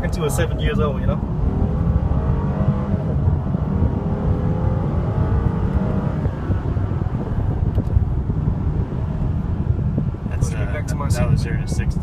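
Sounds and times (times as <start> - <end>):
car engine accelerating hard: 0.0 - 10.8.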